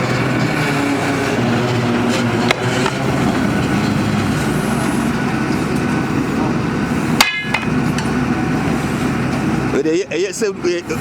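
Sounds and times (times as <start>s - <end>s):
drilling rig engine running: 0.0s - 11.0s.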